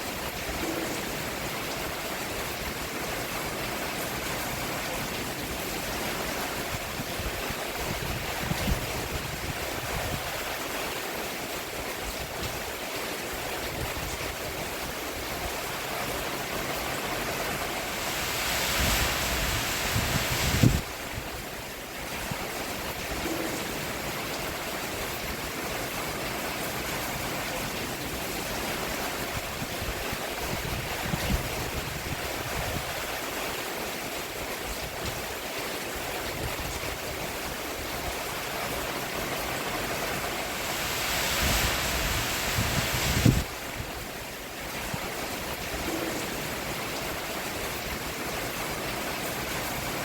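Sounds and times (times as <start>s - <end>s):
rain falling on a roof: 0.0s - 50.0s.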